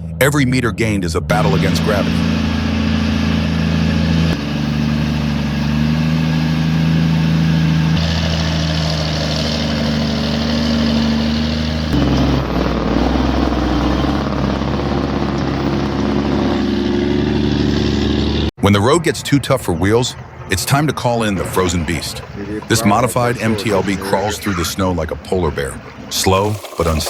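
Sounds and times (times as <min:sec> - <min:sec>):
truck diesel engines under load: 0:00.0 - 0:27.0.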